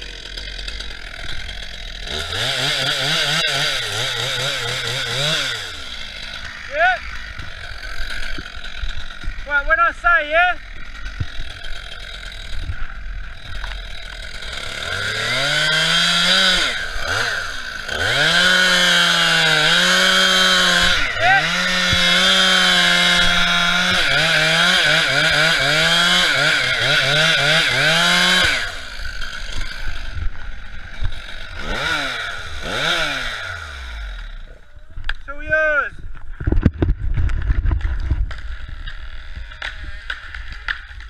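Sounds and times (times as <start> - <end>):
chainsaw cutting wood: 0.0 - 35.2, 36.3 - 41.0.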